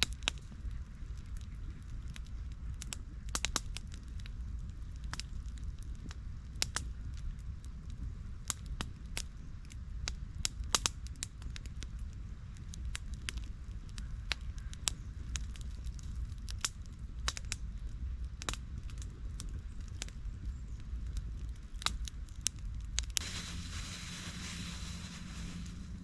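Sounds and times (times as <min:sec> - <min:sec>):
campfire crackling and popping: 0:00.0 - 0:26.0
low steady rumble: 0:00.0 - 0:26.0.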